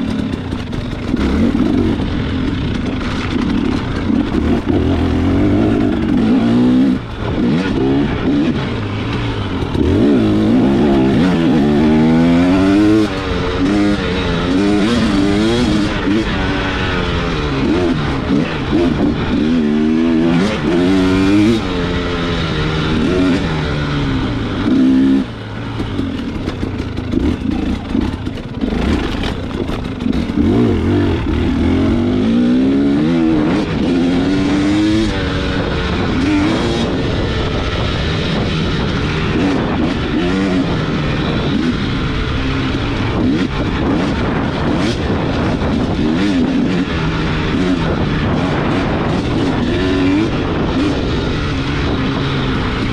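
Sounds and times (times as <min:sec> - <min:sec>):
off-road motorcycle engine revving: 0:00.0 - 0:52.9.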